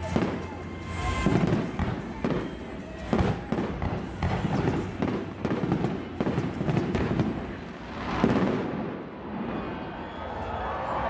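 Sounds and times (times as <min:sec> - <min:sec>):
fireworks bangs and crackles: 0:00.0 - 0:11.0
fireworks rushing swell: 0:00.0 - 0:11.0.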